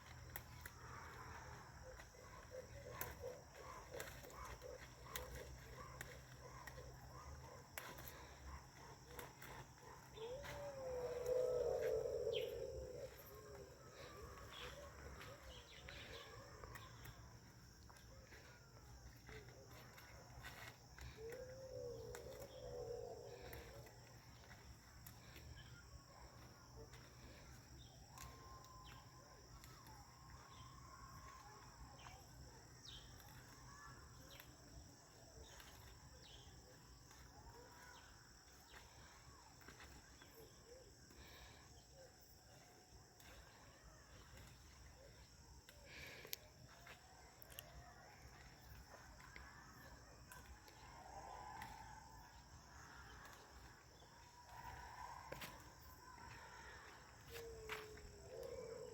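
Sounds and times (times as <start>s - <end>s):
crickets droning: 0.0s - 58.9s.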